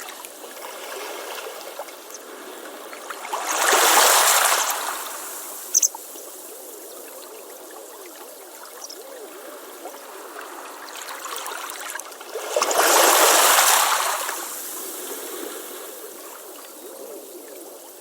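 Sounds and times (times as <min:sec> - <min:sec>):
wave surging and washing back: 0:00.0 - 0:06.8, 0:09.2 - 0:18.0.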